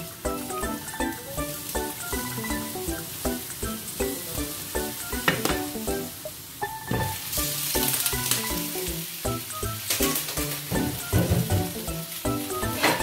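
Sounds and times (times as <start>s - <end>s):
background music with steady beat: 0.0s - 13.0s
dumplings sizzling in a pan: 0.0s - 13.0s.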